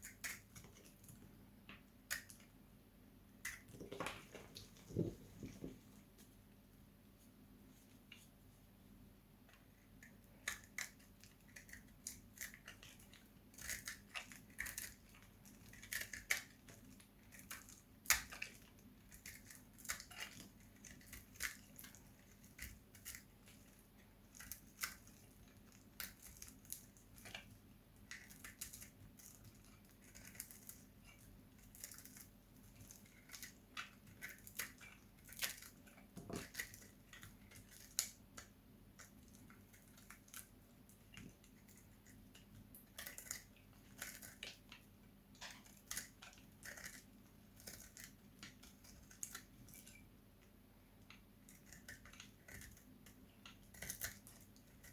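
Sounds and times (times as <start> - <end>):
blade cutting soap: 9.8 - 50.0, 51.1 - 54.9.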